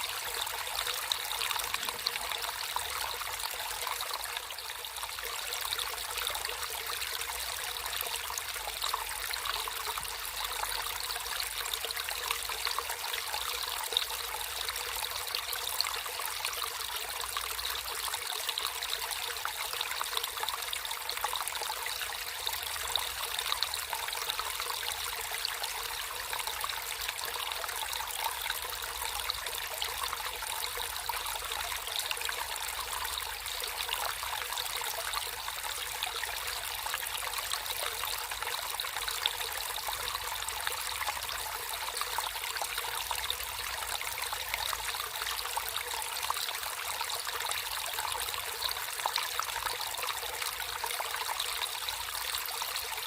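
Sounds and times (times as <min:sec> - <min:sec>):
stream water trickling: 0:00.0 - 0:53.0.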